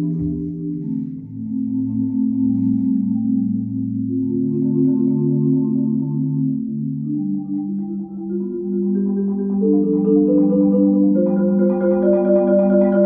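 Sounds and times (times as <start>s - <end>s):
marimba rolled chords: 0.0s - 13.0s.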